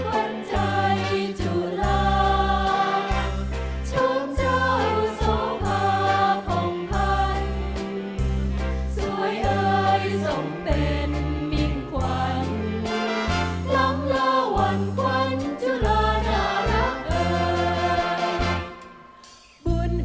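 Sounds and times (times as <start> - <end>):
mixed choir singing: 0.0 - 8.3, 8.9 - 19.0
music with rhythmic bass line: 0.0 - 20.0.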